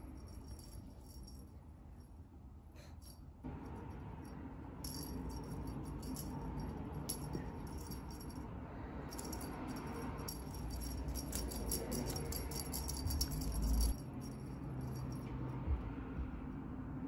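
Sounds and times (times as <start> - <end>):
small metal bell jingling: 0.0 - 1.6, 3.0 - 15.3.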